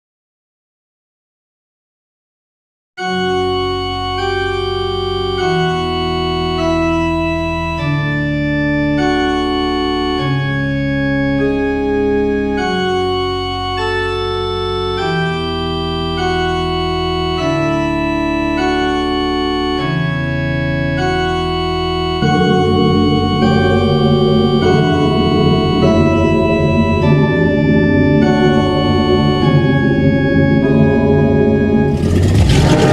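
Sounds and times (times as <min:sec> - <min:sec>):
organ chords: 0:03.0 - 0:32.9.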